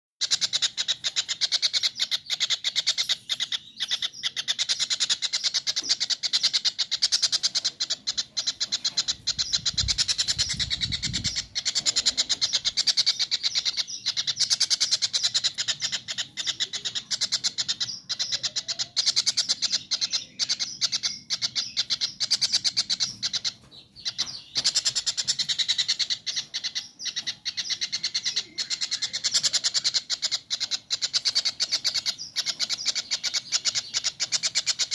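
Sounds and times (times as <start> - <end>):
kingfisher calling: 0.2 - 34.9.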